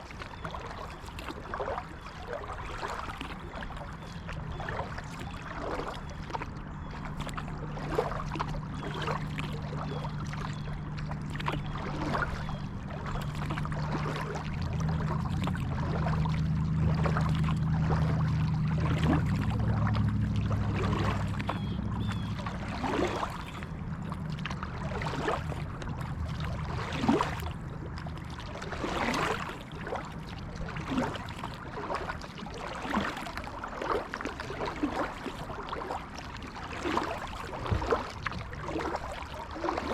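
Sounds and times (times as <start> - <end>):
low steady hum: 0.0 - 39.9
paddle splashing in water: 0.0 - 39.9.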